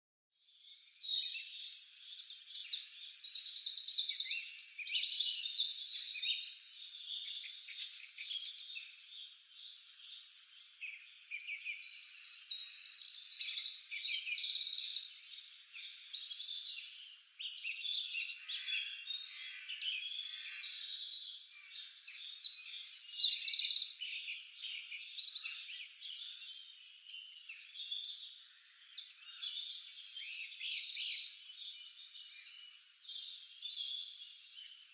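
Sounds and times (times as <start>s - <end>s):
songbirds chirping and trilling: 0.4s - 34.9s.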